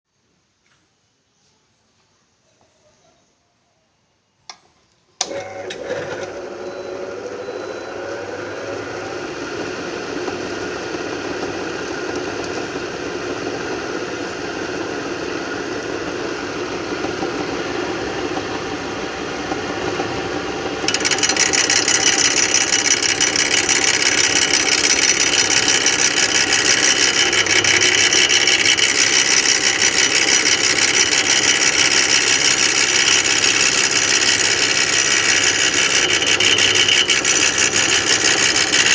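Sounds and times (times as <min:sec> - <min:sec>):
lathe motor humming and rattling: 0:05.2 - 0:38.9.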